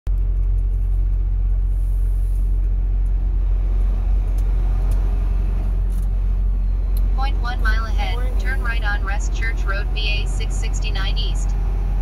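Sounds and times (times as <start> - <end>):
road noise: 0.1 - 12.0
truck engine rumble: 0.1 - 12.0.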